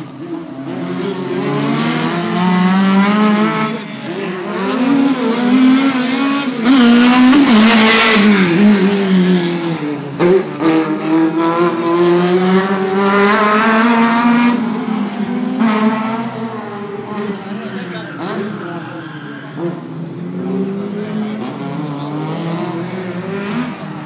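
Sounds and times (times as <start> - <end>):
car engine running hard: 0.0 - 24.0.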